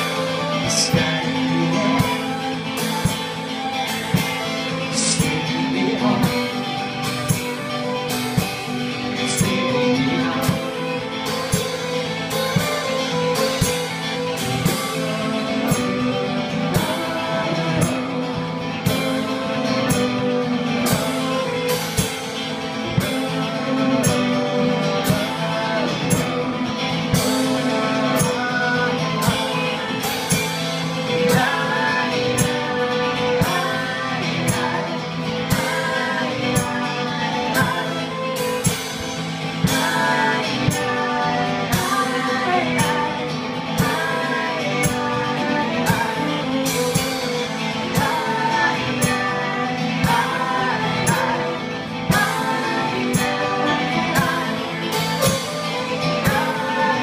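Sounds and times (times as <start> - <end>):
bowed fiddle: 0.0 - 57.0
electric keyboard: 0.0 - 57.0
strummed acoustic guitar: 0.0 - 57.0
woman singing: 0.0 - 57.0.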